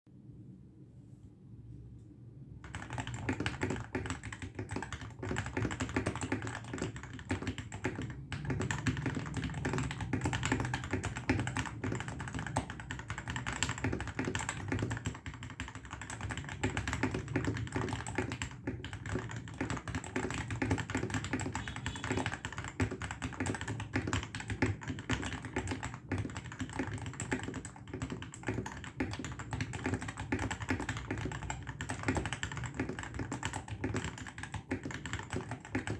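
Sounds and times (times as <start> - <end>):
mechanical keyboard typing: 2.6 - 35.9.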